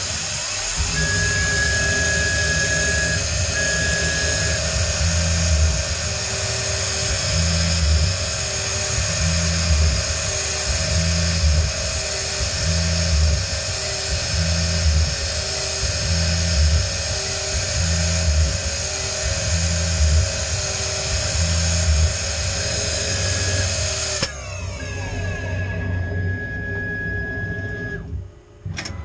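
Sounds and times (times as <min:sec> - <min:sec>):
low cutting pulse: 0:00.0 - 0:28.8
mill spindle high whine: 0:00.0 - 0:29.0.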